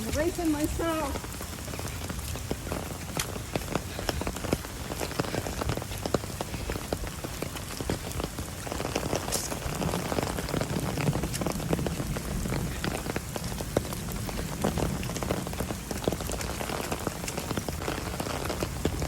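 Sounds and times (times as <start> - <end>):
rain falling: 0.0 - 19.0
sharp ticks of raindrops: 0.0 - 19.0.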